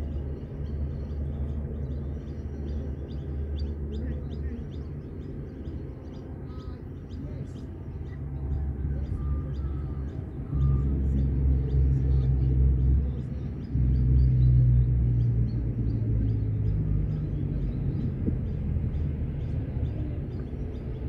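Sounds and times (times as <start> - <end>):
birds chirping faintly: 0.0 - 21.0
low rumble: 0.0 - 21.0.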